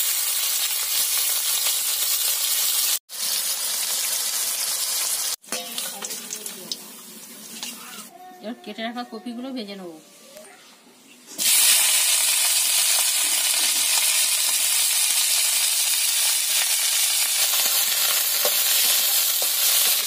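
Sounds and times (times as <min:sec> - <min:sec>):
vegetables sizzling in hot oil: 0:00.0 - 0:08.1, 0:11.4 - 0:20.0.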